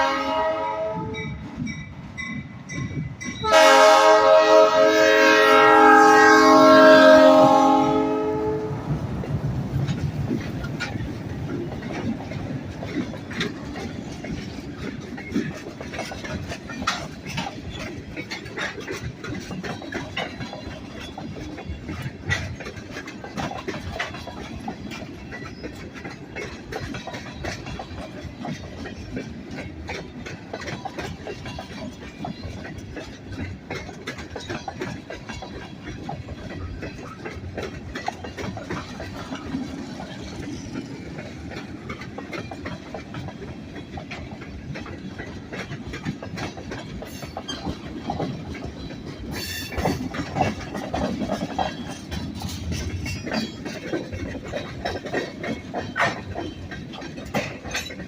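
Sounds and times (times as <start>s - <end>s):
railroad cars rolling past: 0.0s - 58.0s
wheels clicking over rail joints: 0.0s - 58.0s.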